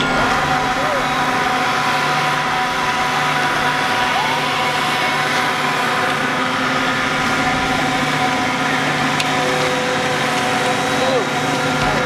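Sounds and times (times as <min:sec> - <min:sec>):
machine drone: 0:00.0 - 0:12.0.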